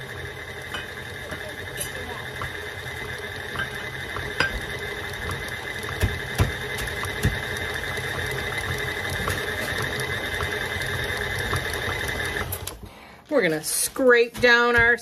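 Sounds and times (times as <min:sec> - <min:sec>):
stand mixer whining: 0:00.0 - 0:12.8.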